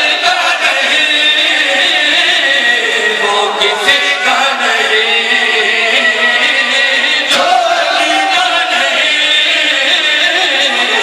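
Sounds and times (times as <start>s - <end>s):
crowd chanting over loudspeaker: 0.0s - 11.0s
person reciting into a microphone: 0.0s - 11.0s.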